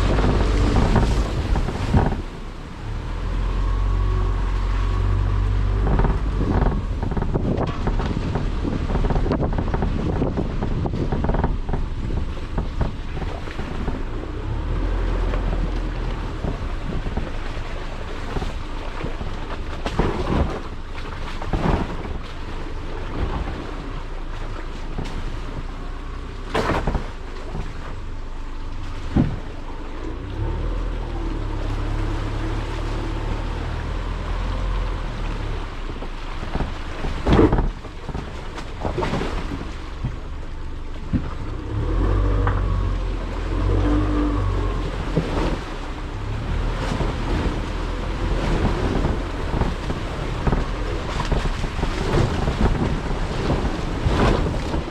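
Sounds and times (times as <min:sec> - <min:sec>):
car engine and road rumble: 0:00.0 - 0:54.9
wind buffeting microphone: 0:00.0 - 0:54.9.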